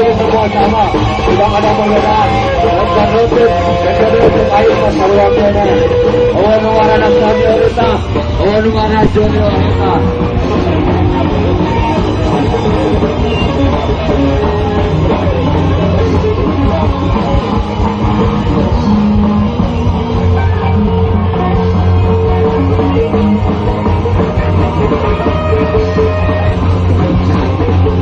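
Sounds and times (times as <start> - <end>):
bass guitar: 0.0 - 28.0
drum kit: 0.0 - 28.0
electric guitars: 0.0 - 28.0.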